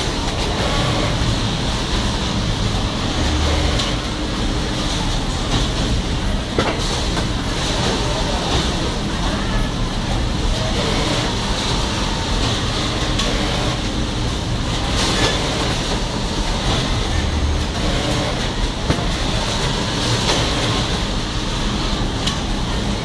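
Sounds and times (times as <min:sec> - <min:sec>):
factory machinery din: 0:00.0 - 0:23.0.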